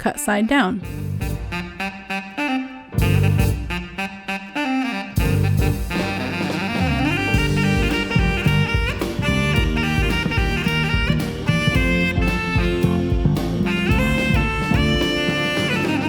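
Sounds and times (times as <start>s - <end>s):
upbeat jazz with saxophone and drums: 0.0s - 16.0s.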